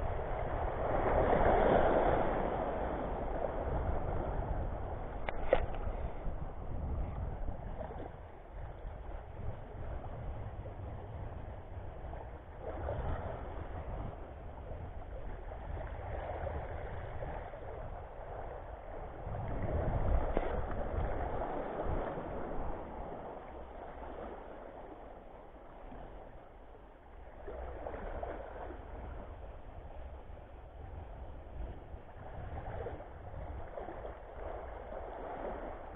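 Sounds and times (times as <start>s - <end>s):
small waves lapping on rocks: 0.0s - 10.7s, 11.6s - 35.9s
wind rumbling on microphone: 0.0s - 35.9s.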